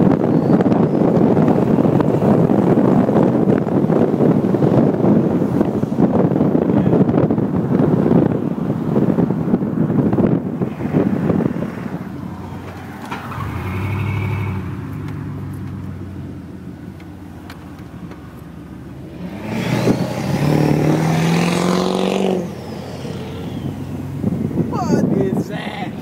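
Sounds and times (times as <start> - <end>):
pickup engine accelerating: 0.0 - 26.0.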